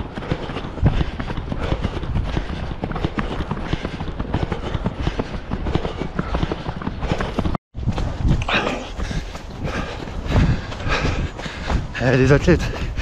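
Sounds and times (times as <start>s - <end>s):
footsteps on leafy dirt path: 0.0s - 13.0s.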